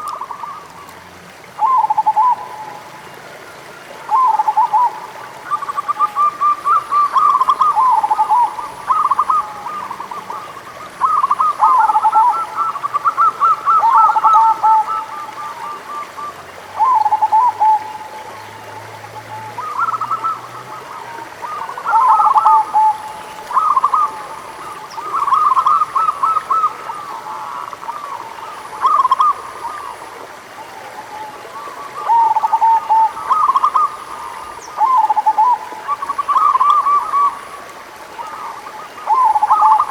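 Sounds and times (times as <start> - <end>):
doves cooing: 1.6 - 39.9.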